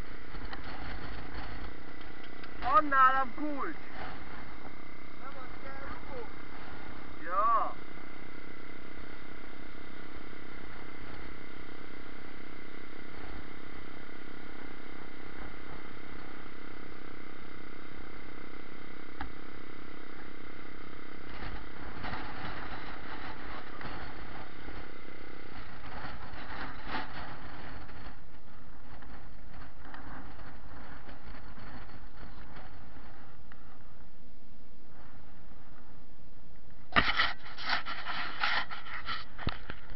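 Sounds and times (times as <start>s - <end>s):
motorcycle engine idling: 0.0s - 37.6s.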